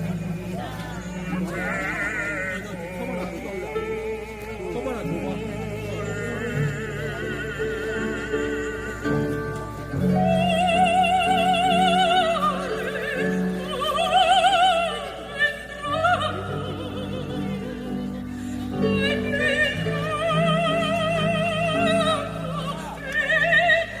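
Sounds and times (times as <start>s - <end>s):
instrumental accompaniment: 0.0s - 24.0s
operatic singing with vibrato: 0.0s - 24.0s.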